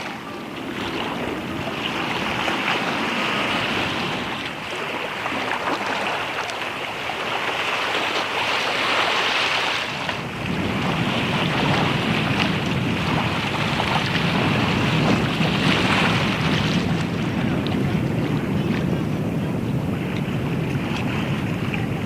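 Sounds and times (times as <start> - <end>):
seawater washing and splashing: 0.0 - 22.0.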